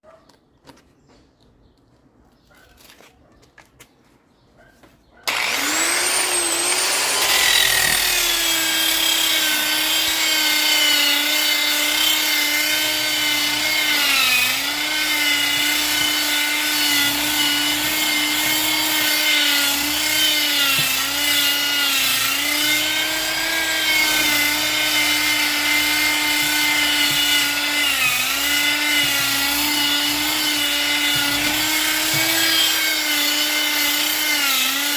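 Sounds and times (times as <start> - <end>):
wood router motor whining: 5.2 - 34.9.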